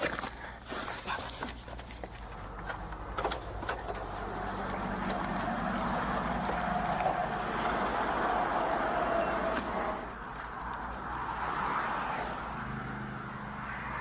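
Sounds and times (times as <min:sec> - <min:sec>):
vehicle passing on highway: 0:02.1 - 0:14.0.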